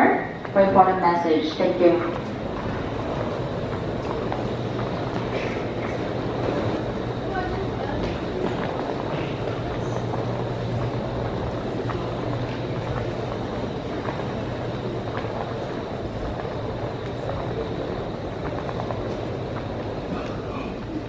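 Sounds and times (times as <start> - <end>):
faint distant noise: 0.0 - 21.0
low drone: 0.0 - 21.0.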